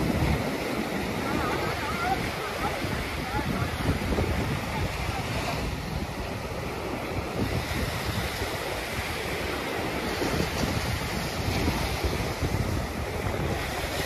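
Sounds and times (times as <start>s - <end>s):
ocean surf breaking on beach: 0.0s - 14.0s
wind buffeting microphone: 0.0s - 14.0s.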